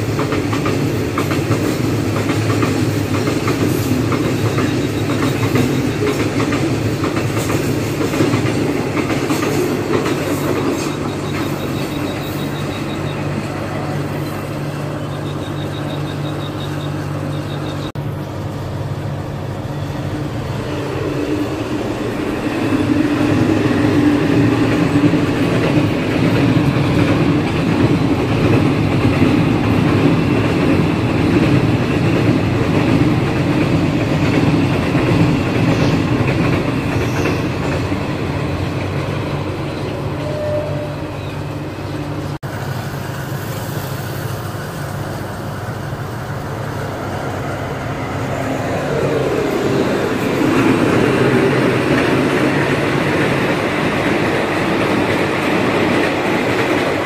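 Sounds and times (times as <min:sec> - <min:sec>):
freight train wheels on rails: 0:00.0 - 0:57.0
passenger train passing: 0:00.0 - 0:57.0.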